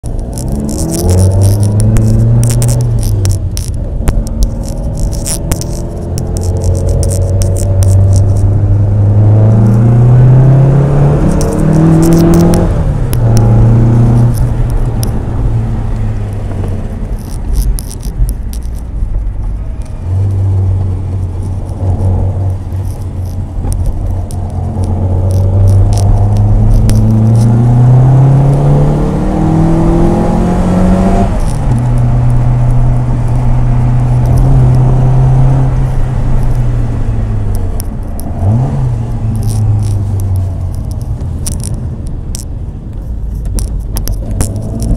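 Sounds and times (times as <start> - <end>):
car engine accelerating through gears: 0.0 - 18.1, 19.9 - 42.4, 43.5 - 44.9.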